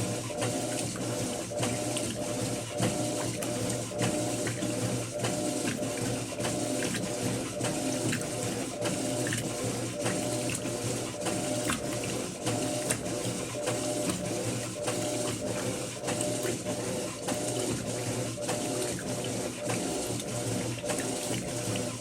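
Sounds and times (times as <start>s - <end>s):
washing machine motor hum: 0.0s - 22.0s
washing machine mechanical clicks: 0.2s - 16.6s, 17.2s - 22.0s.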